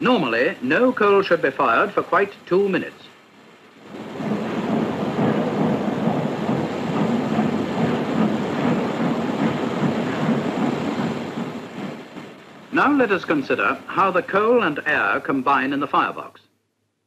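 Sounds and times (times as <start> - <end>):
steam locomotive rumbling: 0.0 - 16.4.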